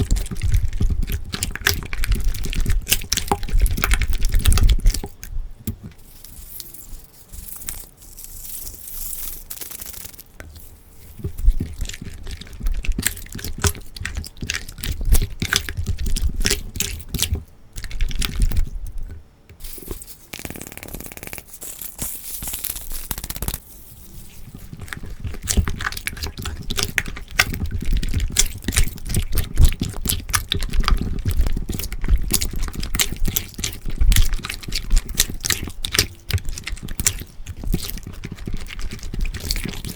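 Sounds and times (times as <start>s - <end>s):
slime squelching with sticky clicks: 0.0s - 6.7s, 9.5s - 23.6s, 24.4s - 39.9s.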